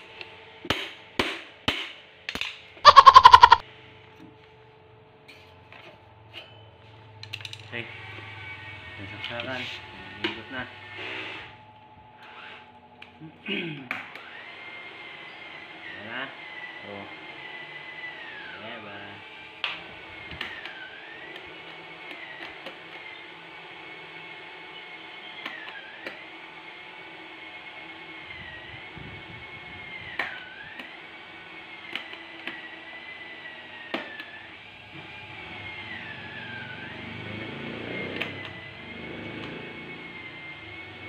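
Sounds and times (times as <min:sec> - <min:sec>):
electric fan motor whining: 0:07.0 - 0:13.2, 0:14.0 - 0:41.0.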